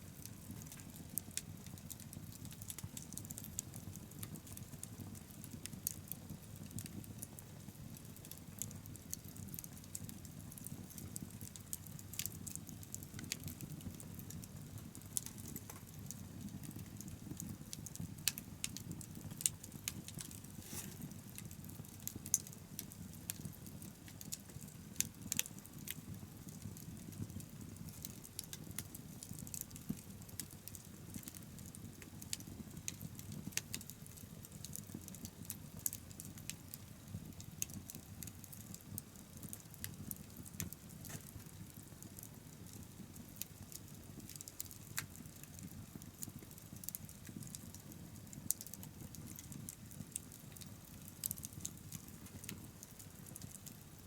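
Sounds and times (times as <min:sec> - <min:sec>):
fire rumble: 0:00.0 - 0:54.0
wood fire crackling and popping: 0:00.0 - 0:54.0.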